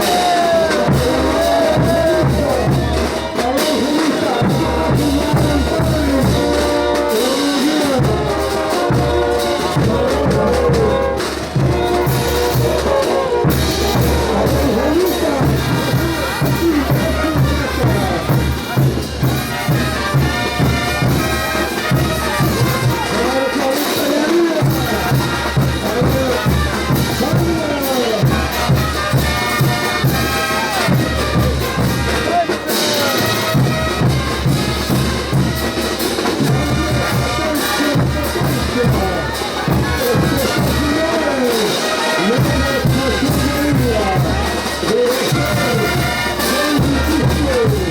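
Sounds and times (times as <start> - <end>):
low drum beat: 0.0 - 47.9
trumpets and trombones melody: 0.0 - 47.9.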